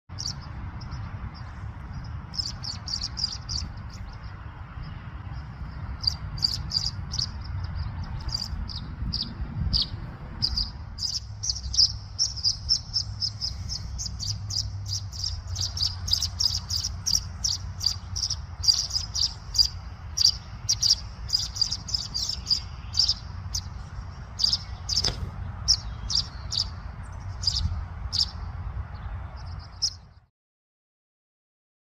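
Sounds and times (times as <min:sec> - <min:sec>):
low background rumble: 0:00.1 - 0:30.2
bird twittering high chirps: 0:00.1 - 0:30.3.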